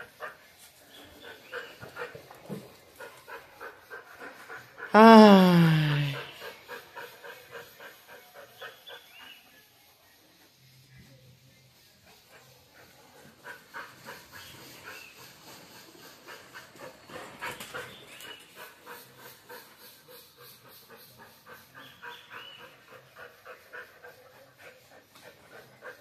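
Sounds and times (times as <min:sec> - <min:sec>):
dog panting rapidly: 0:00.0 - 0:04.9, 0:06.1 - 0:10.6, 0:11.8 - 0:26.0.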